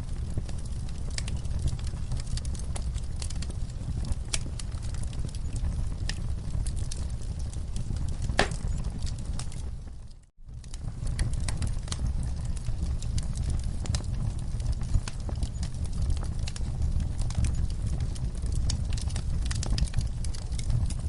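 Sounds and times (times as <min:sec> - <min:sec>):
fire crackles and pops: 0:00.0 - 0:21.0
fire flames rumbling: 0:00.0 - 0:21.0.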